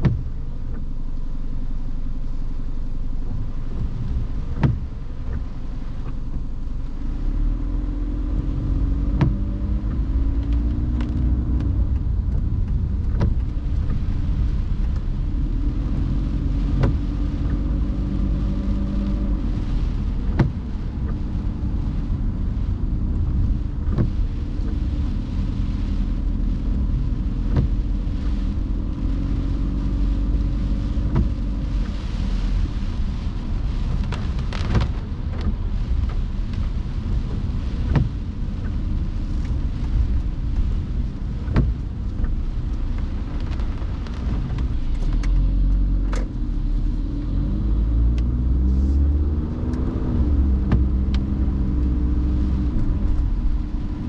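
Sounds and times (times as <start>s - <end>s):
car engine and tyres rumbling: 0.0s - 54.0s
rain and spray hissing: 0.0s - 54.0s.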